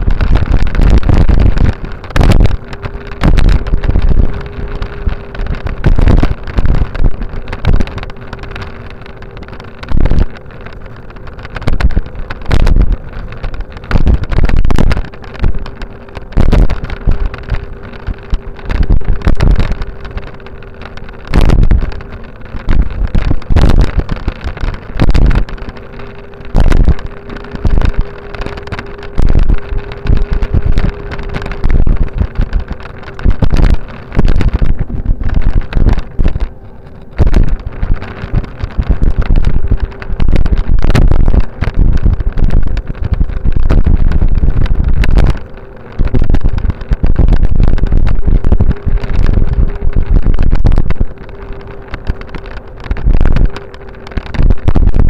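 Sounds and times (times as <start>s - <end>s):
faint steady whine: 0.0s - 55.0s
wind buffeting microphone: 0.0s - 55.0s.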